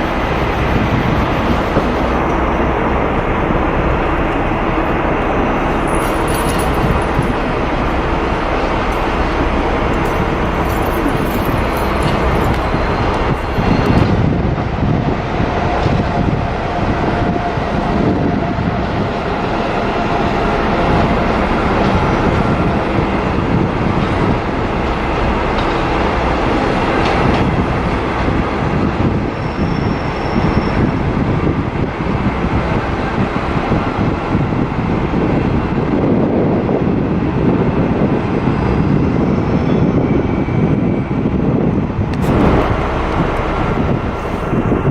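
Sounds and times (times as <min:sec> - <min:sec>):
train running on rails: 0:00.0 - 0:44.9.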